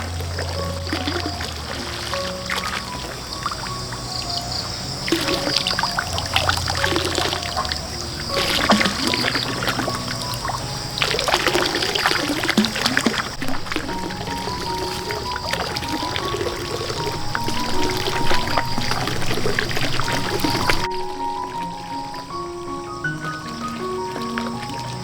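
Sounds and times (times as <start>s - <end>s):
soft background music: 0.0s - 25.0s
water splashing and trickling: 0.0s - 25.0s.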